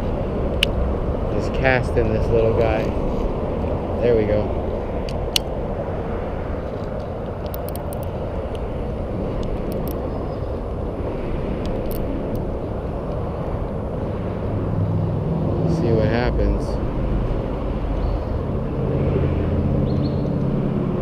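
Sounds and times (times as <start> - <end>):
highway traffic rumble: 0.0 - 21.0.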